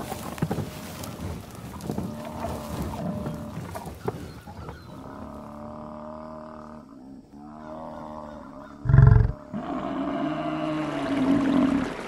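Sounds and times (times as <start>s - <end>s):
buffalo deep grunt: 1.8s - 11.9s
buffalo low drawn-out calls: 1.8s - 11.9s.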